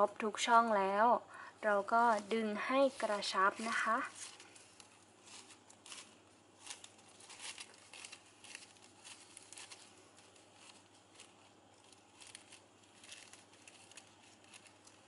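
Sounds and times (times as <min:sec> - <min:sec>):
ribbon rustling and crinkling: 0:01.6 - 0:15.0.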